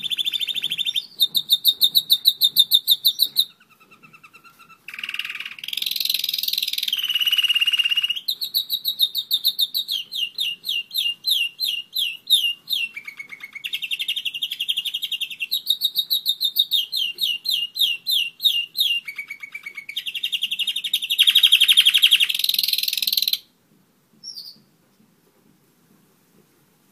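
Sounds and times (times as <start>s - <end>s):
canary singing trills: 0.0s - 23.5s, 24.2s - 24.7s.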